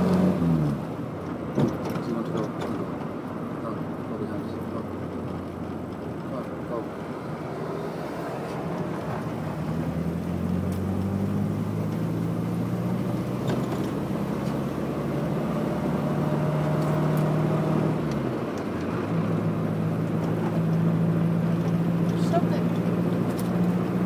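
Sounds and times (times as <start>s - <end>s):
car engine running: 0.0s - 24.0s
road and tyre noise: 0.0s - 24.0s.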